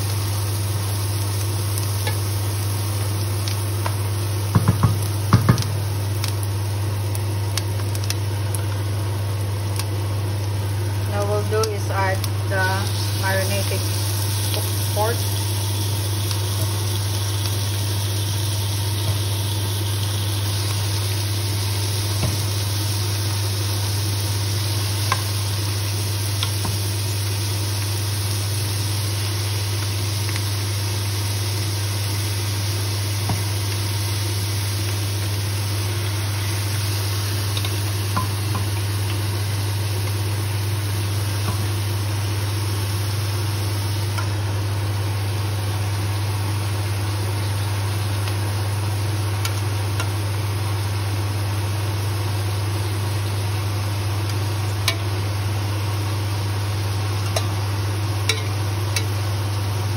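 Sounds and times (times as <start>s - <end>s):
constant low hum: 0.0s - 59.9s
meat sizzling in a pot: 0.0s - 59.9s.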